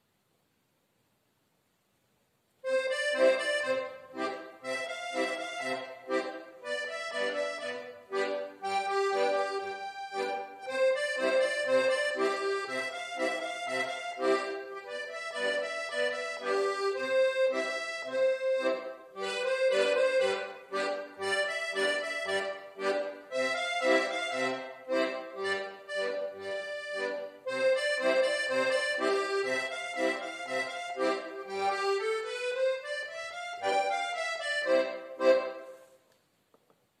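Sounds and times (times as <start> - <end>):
piano accordion playing: 2.6 - 36.0.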